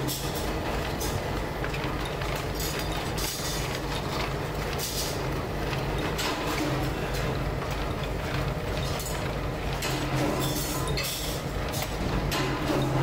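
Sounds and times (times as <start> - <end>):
gears and rollers rattling: 0.0 - 13.0
rolling machine motor hum: 0.0 - 13.0.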